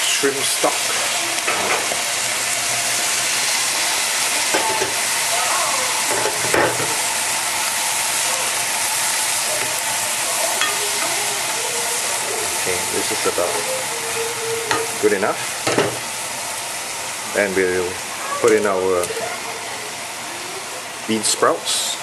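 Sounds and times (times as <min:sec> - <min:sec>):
stock sizzling in hot pot: 0:00.0 - 0:22.0.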